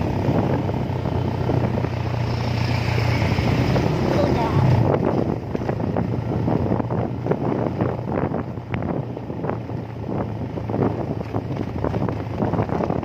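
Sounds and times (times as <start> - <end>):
low engine hum: 0.0 - 13.0
wind buffeting microphone: 0.0 - 13.0.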